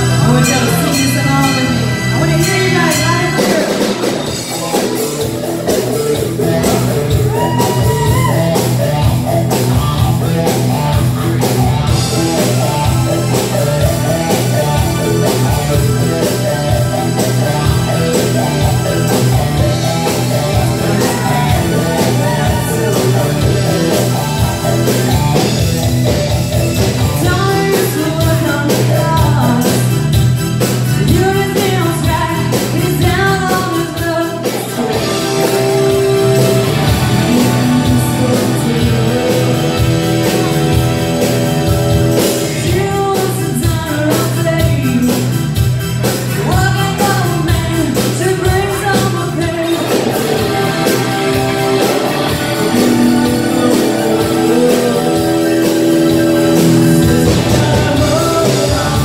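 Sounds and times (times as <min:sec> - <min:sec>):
live rock band playing: 0:00.0 - 0:59.0
woman singing lead: 0:00.1 - 0:09.1, 0:12.3 - 0:25.6, 0:26.9 - 0:41.4, 0:42.1 - 0:45.6, 0:46.3 - 0:59.0.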